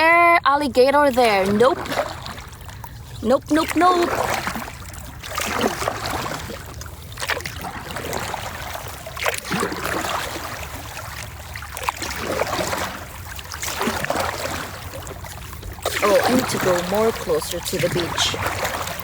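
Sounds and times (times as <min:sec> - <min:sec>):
paddle strokes in water: 0:00.8 - 0:19.0.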